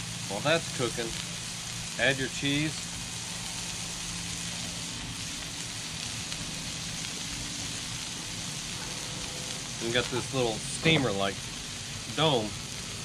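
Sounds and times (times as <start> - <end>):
burger patties sizzling on griddle: 0.0 - 13.0
low steady hum: 0.0 - 13.0.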